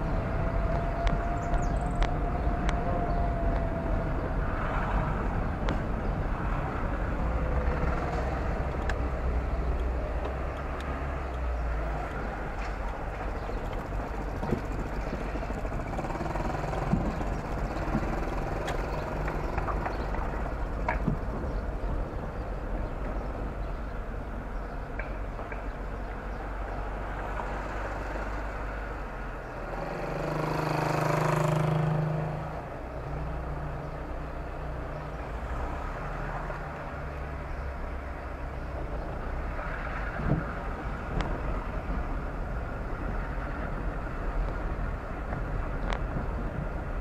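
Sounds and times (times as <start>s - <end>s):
car engine and road noise: 0.0s - 47.0s.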